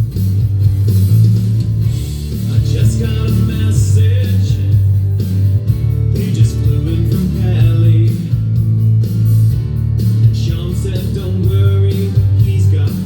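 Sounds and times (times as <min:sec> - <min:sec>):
recorded guitar music: 0:00.0 - 0:13.0
steady bass line: 0:00.0 - 0:13.0.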